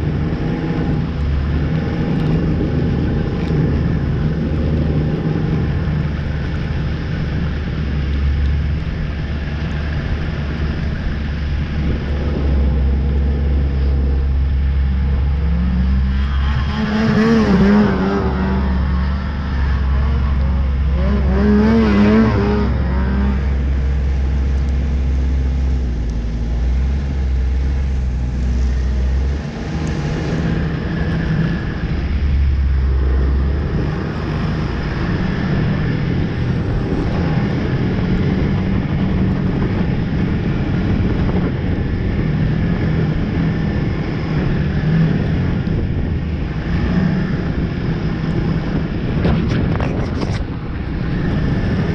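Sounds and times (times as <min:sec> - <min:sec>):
snowmobile engine running: 0:00.0 - 0:51.9.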